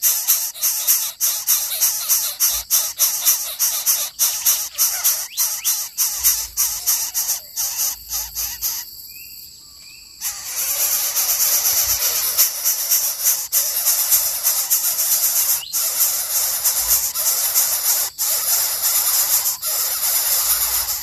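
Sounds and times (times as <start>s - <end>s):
nestlings calling in raspy pulses: 0.0s - 21.0s.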